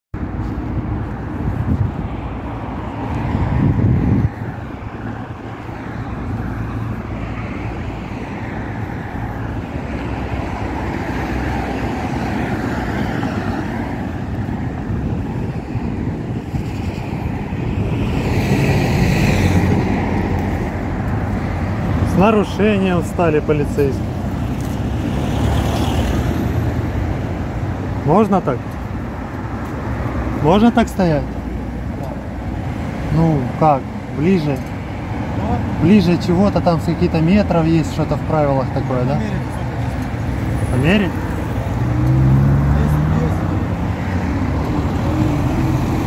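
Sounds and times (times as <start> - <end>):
road traffic hum: 0.1 - 46.0.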